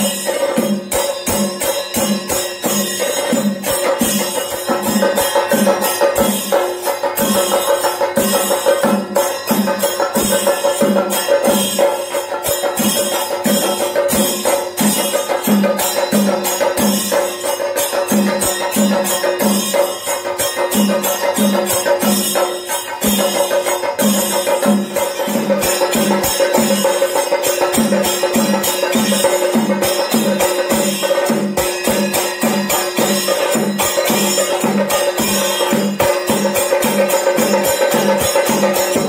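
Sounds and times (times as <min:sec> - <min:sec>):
drums beaten with sticks: 0:00.0 - 0:39.0
ringing hand cymbals: 0:00.0 - 0:39.0.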